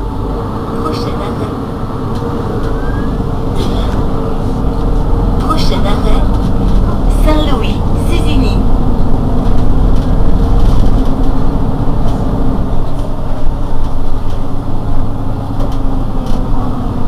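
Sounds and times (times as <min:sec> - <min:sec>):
bus diesel engine idling: 0:00.0 - 0:17.0
steady hum: 0:00.0 - 0:17.0.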